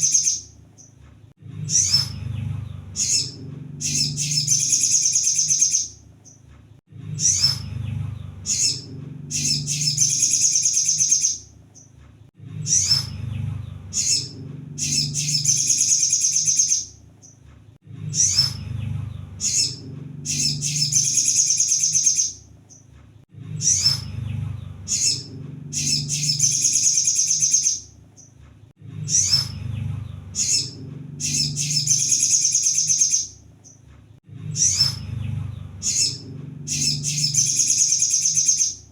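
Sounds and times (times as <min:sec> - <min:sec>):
bird chirps and trill: 0:00.0 - 0:17.4, 0:18.0 - 0:22.9, 0:23.5 - 0:33.8, 0:34.4 - 0:38.9
low hum: 0:01.3 - 0:32.6, 0:33.3 - 0:38.6.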